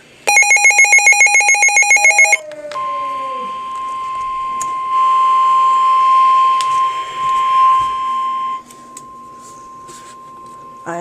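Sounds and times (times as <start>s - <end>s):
high-pitched warning alarm tone: 0.3s - 11.0s.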